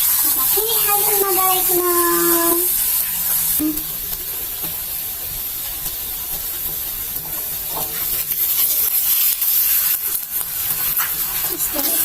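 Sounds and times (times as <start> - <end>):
egg sizzling in hot oil: 0.0 - 12.0.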